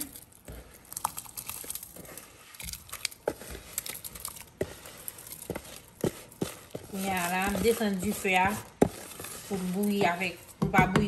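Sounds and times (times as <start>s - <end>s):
wooden spoon scraping a pot: 0.0s - 11.0s.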